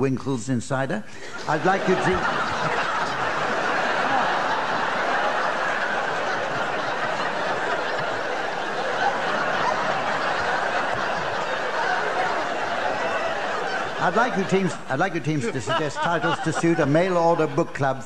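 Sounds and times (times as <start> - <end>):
audience laughing: 1.2 - 18.0.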